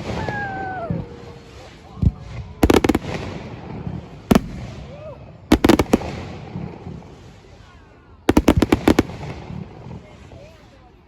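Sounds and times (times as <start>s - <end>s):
fireworks bangs: 0.0s - 10.6s
crowd voices: 0.0s - 11.0s.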